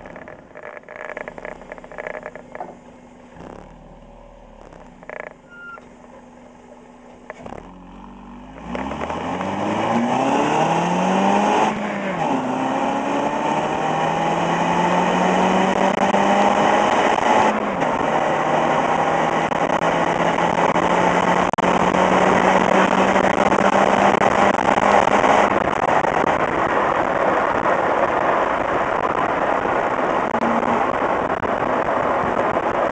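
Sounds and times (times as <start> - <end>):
car exhaust accelerating: 0.0 - 32.9
road and wind noise: 0.0 - 32.9.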